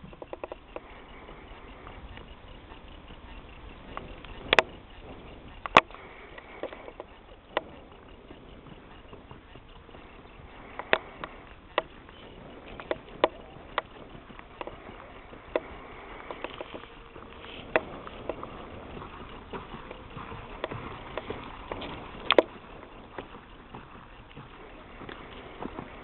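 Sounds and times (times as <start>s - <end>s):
horse hooves on hard dirt: 0.0s - 26.0s
steady background hiss: 0.0s - 26.0s.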